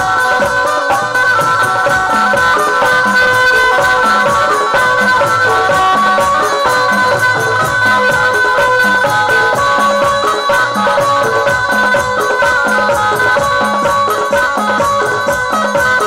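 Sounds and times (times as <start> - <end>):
dholak drum beating: 0.0 - 16.0
held melody notes: 0.0 - 16.0
jingling percussion: 0.0 - 16.0.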